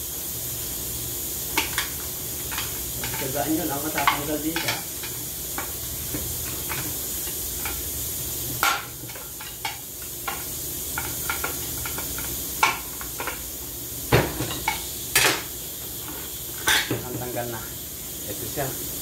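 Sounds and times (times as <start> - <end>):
low hum and hiss of shop: 0.0 - 19.0.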